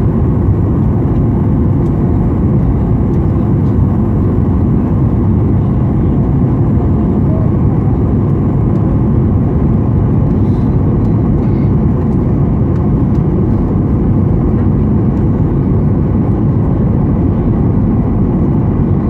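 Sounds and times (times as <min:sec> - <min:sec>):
airplane cabin engine noise: 0:00.0 - 0:19.0
rushing airflow: 0:00.0 - 0:19.0.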